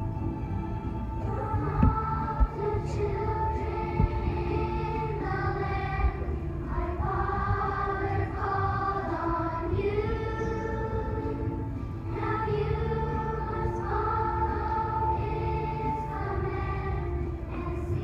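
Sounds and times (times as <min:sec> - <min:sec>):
children's choir singing: 0:00.8 - 0:18.0.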